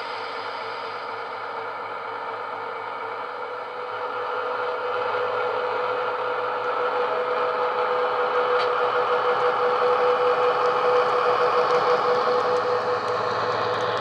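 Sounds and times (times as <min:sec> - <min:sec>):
diesel locomotive engine through small speaker: 0:00.0 - 0:14.0.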